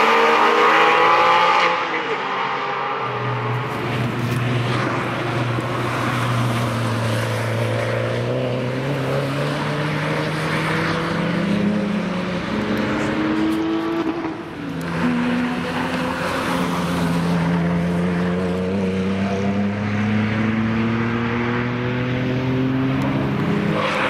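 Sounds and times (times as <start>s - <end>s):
race cars accelerating: 0.0s - 24.0s.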